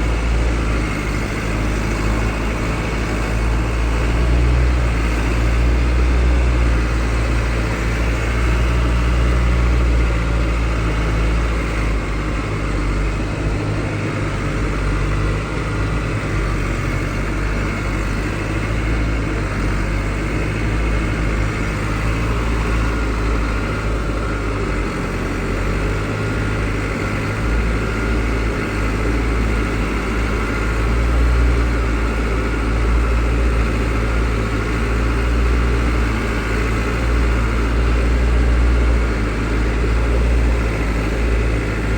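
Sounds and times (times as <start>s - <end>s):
truck engine droning: 0.0s - 41.9s.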